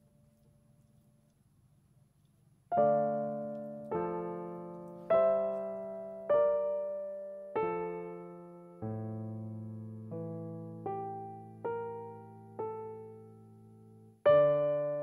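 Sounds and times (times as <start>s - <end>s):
slow piano chords: 2.7s - 15.0s.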